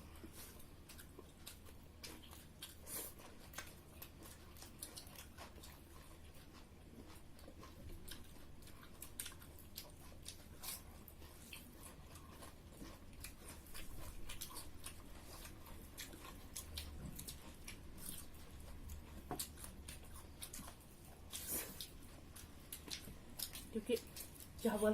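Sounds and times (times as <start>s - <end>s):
wet chewing and eating: 0.0s - 24.9s.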